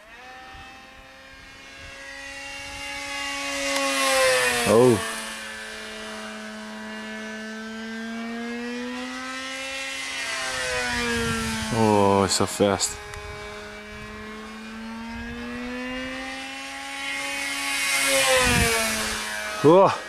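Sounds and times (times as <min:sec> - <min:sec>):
model plane motor and propeller whine: 0:00.0 - 0:20.0.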